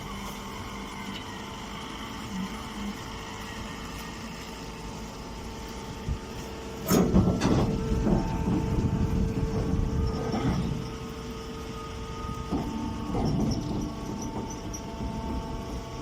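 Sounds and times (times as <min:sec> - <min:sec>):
baler machine humming: 0:00.0 - 0:16.0.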